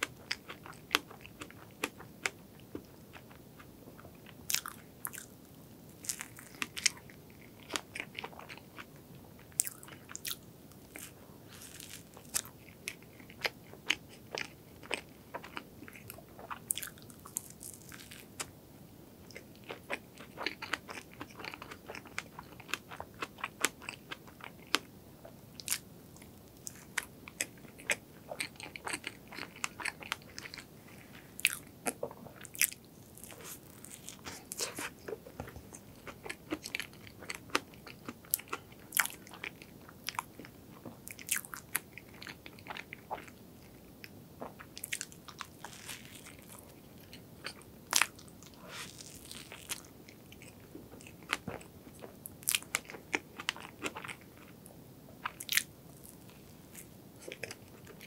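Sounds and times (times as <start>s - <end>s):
crunchy pastry chewing: 0.0s - 18.5s, 19.3s - 58.0s.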